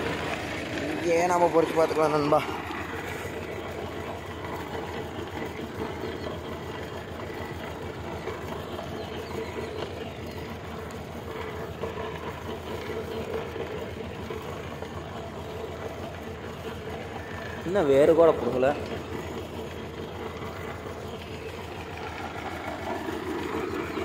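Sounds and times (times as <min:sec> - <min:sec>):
tractor engine under load: 0:00.0 - 0:24.0.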